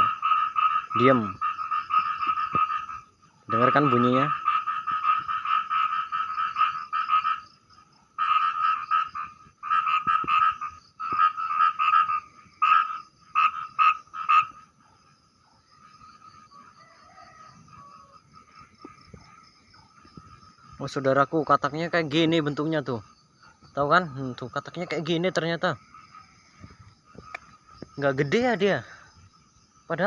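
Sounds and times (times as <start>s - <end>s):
frog calling rasping pulses: 0.0s - 30.0s.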